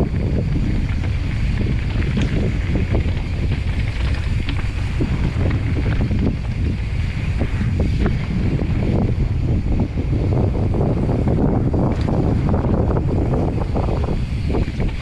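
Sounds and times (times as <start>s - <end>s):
bike chain rattling: 0.0s - 15.0s
tyres rolling on dirt trail: 0.0s - 15.0s
wind buffeting microphone: 0.0s - 15.0s.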